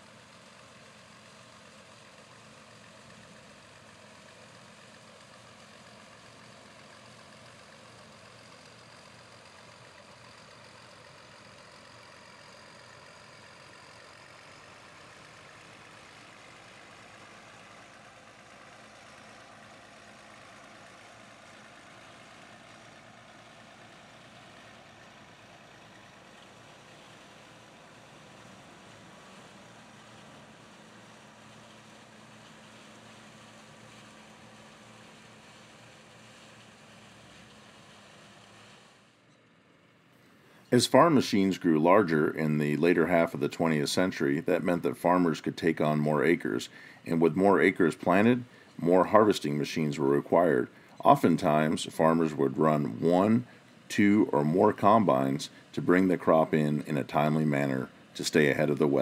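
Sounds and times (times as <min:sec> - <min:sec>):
combine and tractor engines humming: 0:00.0 - 0:59.0.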